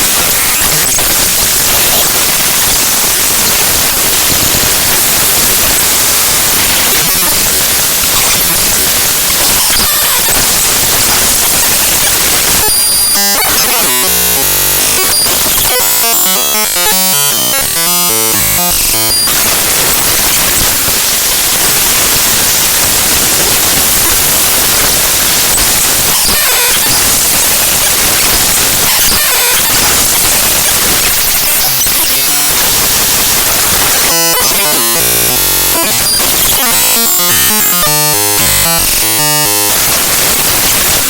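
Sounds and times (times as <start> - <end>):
choppy buzzy tones: 0.0 - 41.0
harsh static: 0.0 - 41.0.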